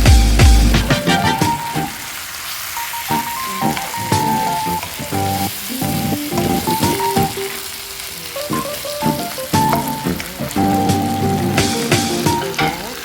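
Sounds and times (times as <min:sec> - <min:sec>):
background music: 0:00.0 - 0:13.0
food sizzling in a pan: 0:00.0 - 0:13.0.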